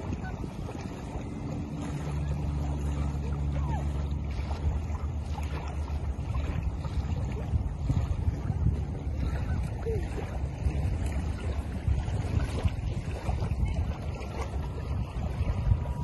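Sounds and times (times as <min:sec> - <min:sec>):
distant engine hum: 0:00.0 - 0:16.0
small waves lapping: 0:00.0 - 0:16.0
wind buffeting microphone: 0:00.0 - 0:16.0.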